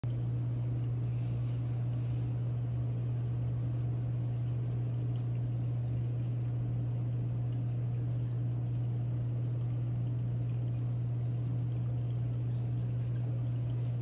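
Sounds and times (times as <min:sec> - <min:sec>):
water pumps humming: 0:00.0 - 0:14.0
water trickling and splashing: 0:00.1 - 0:14.0.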